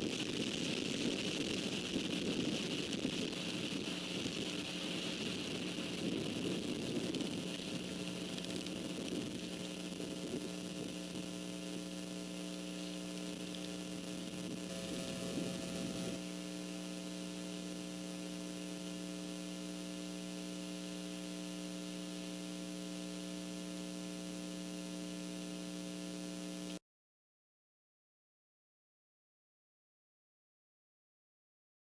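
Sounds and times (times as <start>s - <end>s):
electrical hum: 0.0s - 26.8s.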